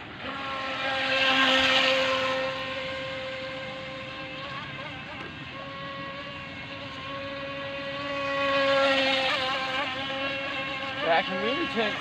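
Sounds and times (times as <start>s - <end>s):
electric motor whining: 0.1s - 12.0s.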